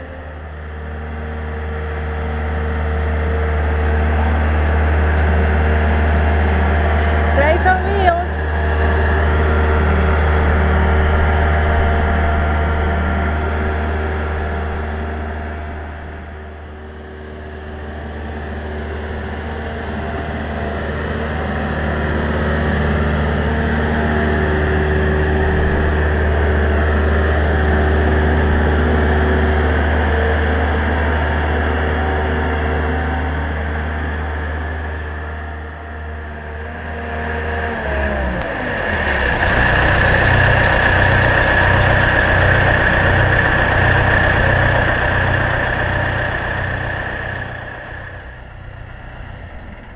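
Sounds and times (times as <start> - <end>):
boat engine rumbling: 0.0 - 49.9.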